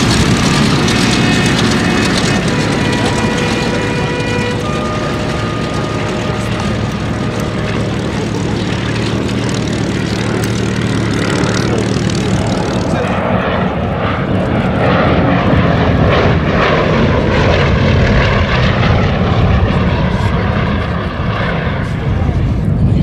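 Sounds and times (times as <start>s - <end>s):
aircraft engines: 0.0s - 23.0s.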